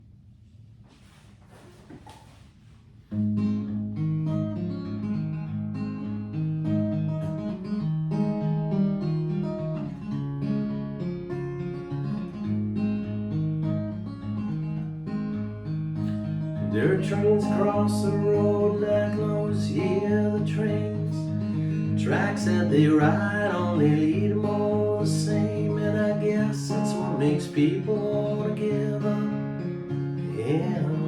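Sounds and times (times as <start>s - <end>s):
acoustic guitar picking: 1.9s - 31.0s.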